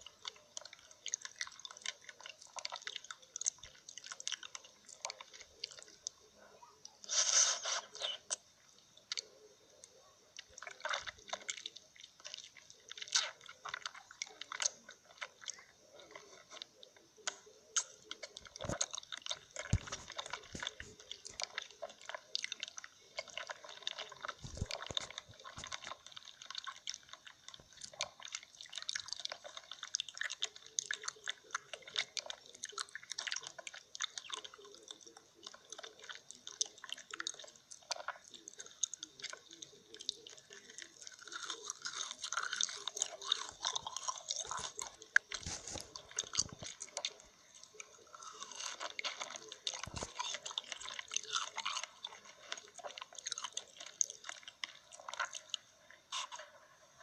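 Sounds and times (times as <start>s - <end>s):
biting and crunching: 0.0s - 57.0s.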